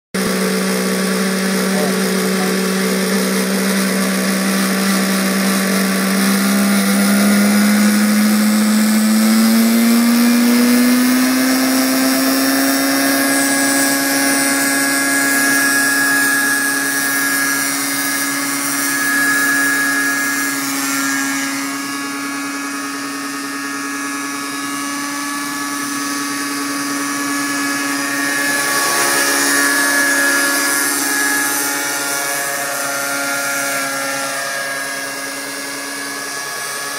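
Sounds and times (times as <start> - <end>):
model helicopter mechanical whine: 0.2 - 36.9.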